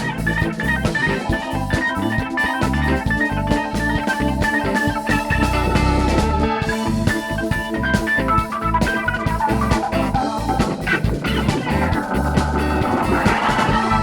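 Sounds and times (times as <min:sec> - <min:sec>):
drum kit: 0:00.0 - 0:14.0
electric guitar: 0:00.0 - 0:14.0
organ: 0:00.0 - 0:14.0.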